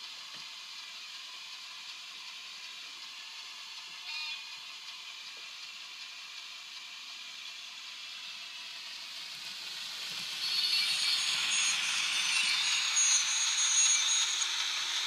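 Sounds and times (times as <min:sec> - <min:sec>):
model train running past: 0:00.0 - 0:15.0.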